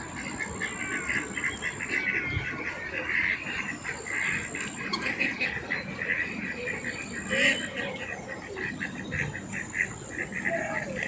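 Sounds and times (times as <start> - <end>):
birds calling: 0.0 - 11.0
ducks quacking: 0.0 - 11.0.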